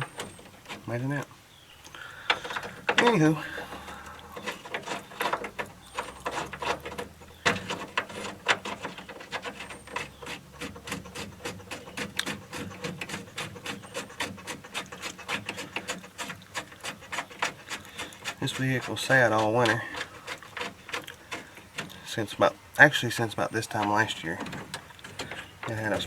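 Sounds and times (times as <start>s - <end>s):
metal and rubber clicks and scrapes: 0.0s - 26.0s.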